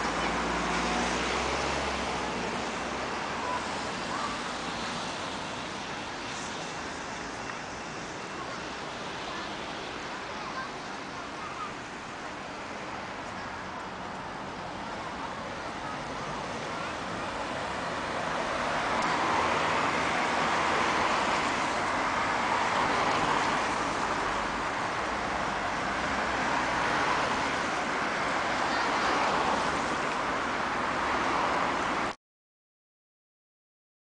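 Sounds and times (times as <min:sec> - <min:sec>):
traffic passing on a wet road: 0:00.0 - 0:32.2.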